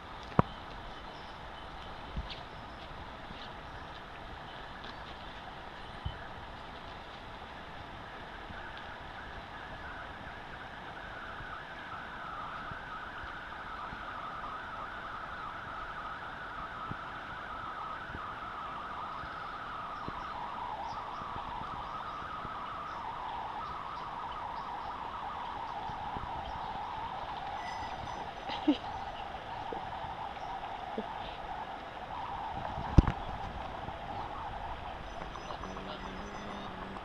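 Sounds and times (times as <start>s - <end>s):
flowing river water: 0.0s - 37.0s.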